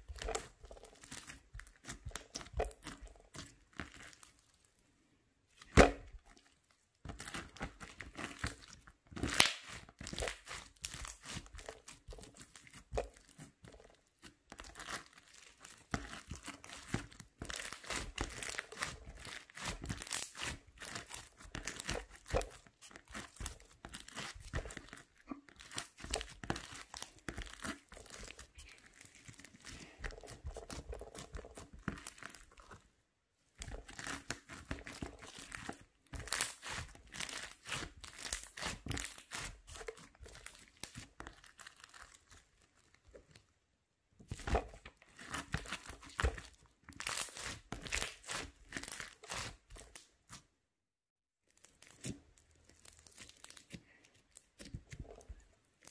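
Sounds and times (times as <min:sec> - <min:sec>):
slime crackling and popping: 0:00.0 - 0:04.6, 0:05.6 - 0:32.8, 0:33.6 - 0:43.4, 0:44.3 - 0:50.3, 0:51.5 - 0:55.9.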